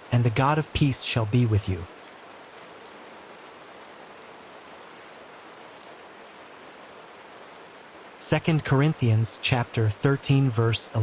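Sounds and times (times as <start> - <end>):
soft rain falling: 0.0 - 11.0.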